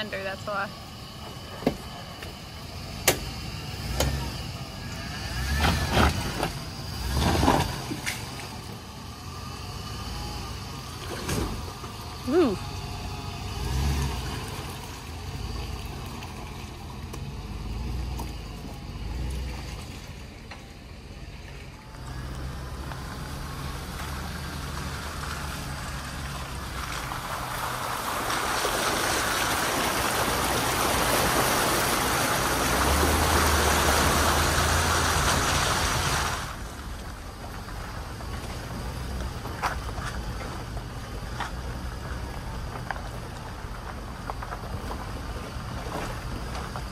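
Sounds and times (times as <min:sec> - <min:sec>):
engine low rumble: 0:00.0 - 0:46.9
tyres splashing through mud puddles: 0:00.0 - 0:46.9.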